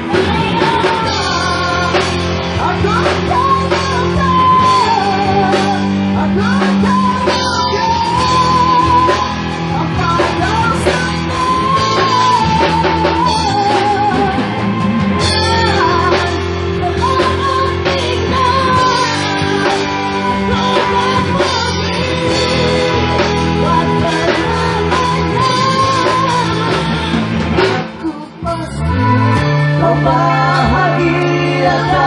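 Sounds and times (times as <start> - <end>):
bass guitar: 0.0 - 32.0
drums: 0.0 - 32.0
electric guitar: 0.0 - 32.0
wavering lead melody: 0.0 - 32.0.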